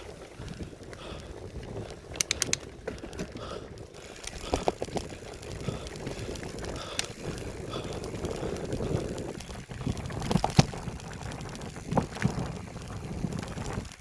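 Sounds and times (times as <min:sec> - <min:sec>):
bicycle tyres on dirt: 0:00.0 - 0:14.0
sharp clicks and rattles: 0:00.1 - 0:14.0.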